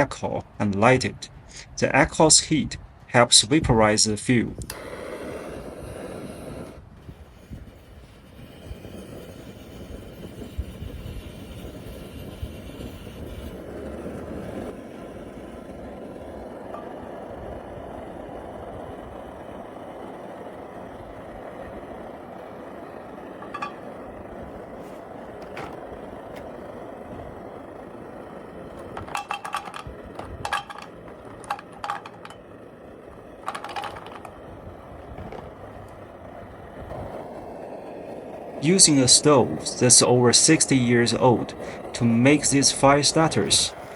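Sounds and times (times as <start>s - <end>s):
stove burner hissing: 3.6s - 43.9s.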